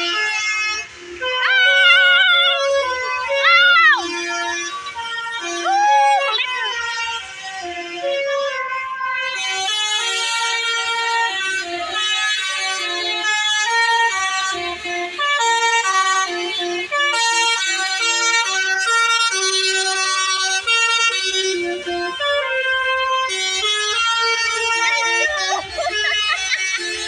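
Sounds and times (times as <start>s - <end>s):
musical air horn melody: 0.0s - 27.0s.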